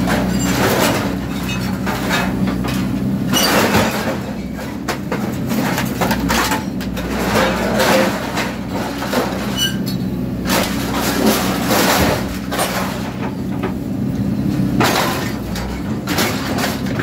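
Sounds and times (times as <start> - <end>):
excavator engine running: 0.0 - 17.0
metal crunching and scraping: 0.0 - 17.0.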